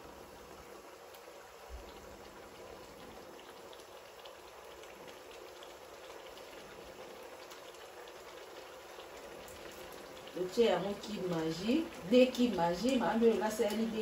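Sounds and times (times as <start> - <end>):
vegetables simmering in oil: 0.0 - 14.0.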